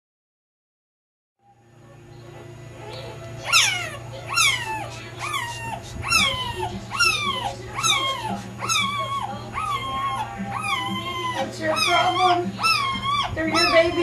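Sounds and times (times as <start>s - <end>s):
puppy squealing: 2.4s - 14.0s.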